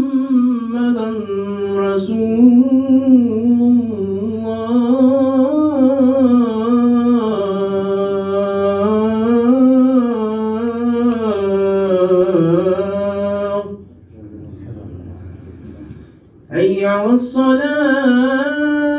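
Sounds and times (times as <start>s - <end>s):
man singing call to prayer: 0.0s - 13.9s, 16.5s - 18.9s.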